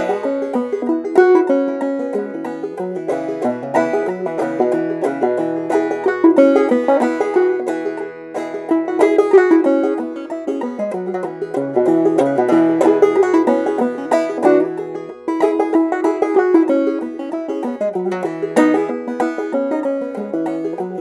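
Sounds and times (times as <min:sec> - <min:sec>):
banjo playing: 0:00.0 - 0:21.0.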